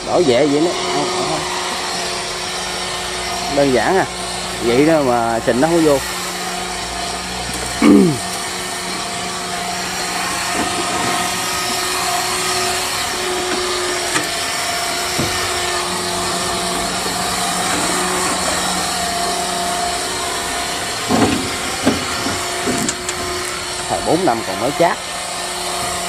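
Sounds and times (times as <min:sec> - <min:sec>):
electric blower running: 0:00.0 - 0:26.0.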